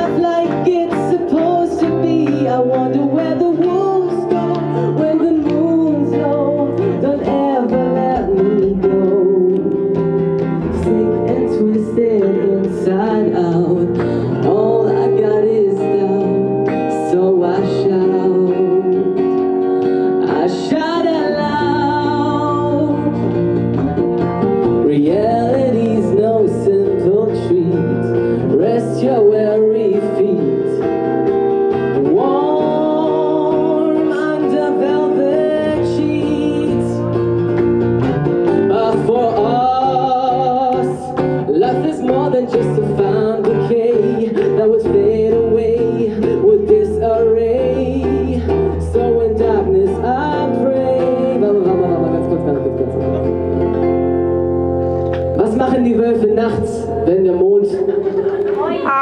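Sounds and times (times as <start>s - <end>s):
person singing: 0.0s - 54.0s
guitar accompaniment: 0.0s - 59.0s.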